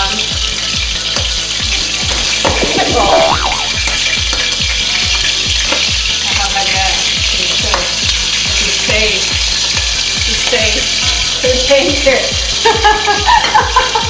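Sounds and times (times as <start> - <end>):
background music with low beat: 0.0 - 14.0
squid deep-frying sizzle: 0.0 - 14.0.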